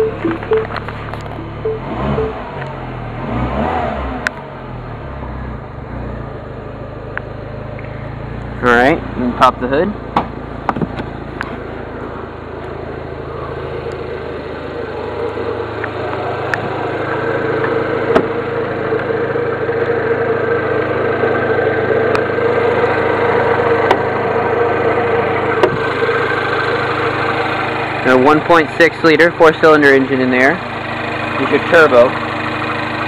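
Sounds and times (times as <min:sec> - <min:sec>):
car engine idling: 0:00.0 - 0:03.1, 0:04.2 - 0:33.0.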